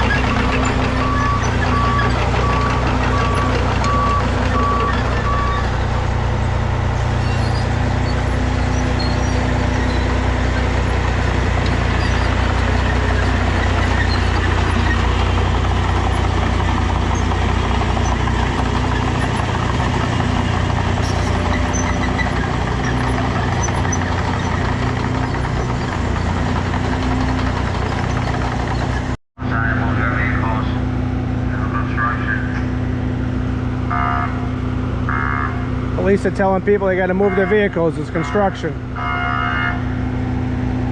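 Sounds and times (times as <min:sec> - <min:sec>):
heavy diesel engines droning: 0:00.0 - 0:40.9.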